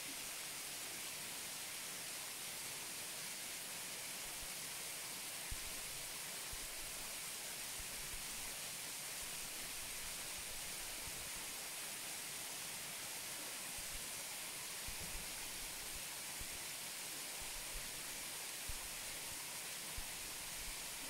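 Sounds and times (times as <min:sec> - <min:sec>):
rush of falling water: 0:00.0 - 0:21.0.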